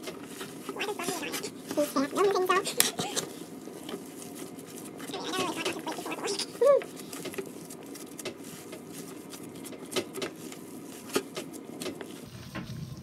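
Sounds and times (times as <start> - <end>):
hands kneading wet meat: 0.0 - 13.0.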